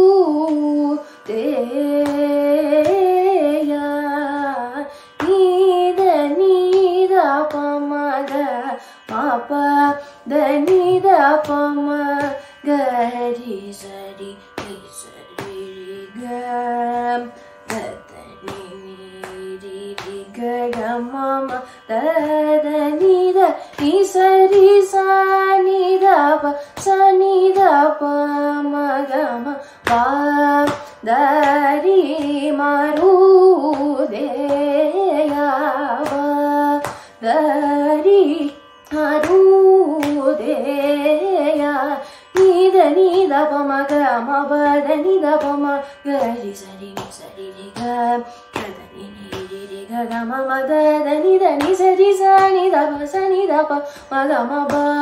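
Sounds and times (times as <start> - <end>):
woman singing classical vocal music: 0.0 - 55.0.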